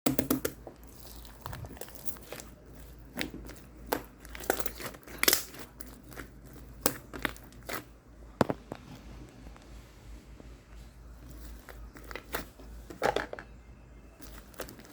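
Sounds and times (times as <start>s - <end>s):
crinkling and crackling: 0.5s - 10.0s, 10.7s - 13.6s, 14.2s - 14.9s.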